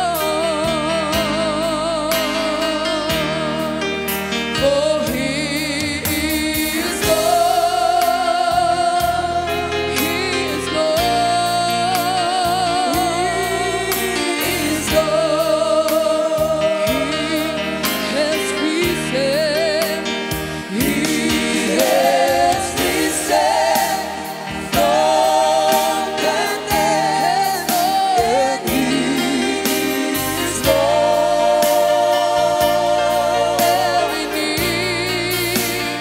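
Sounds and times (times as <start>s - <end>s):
instrumental backing: 0.0s - 36.0s
man and woman singing: 4.6s - 36.0s.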